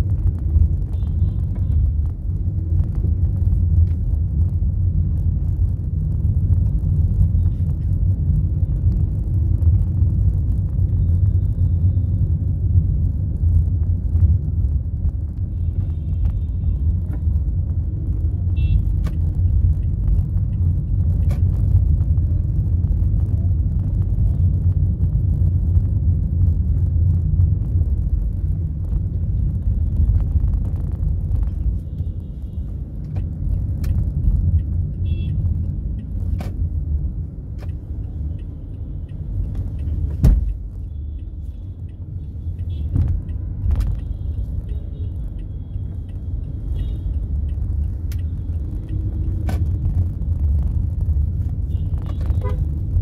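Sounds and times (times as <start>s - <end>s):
car driving rumble: 0.0s - 53.0s.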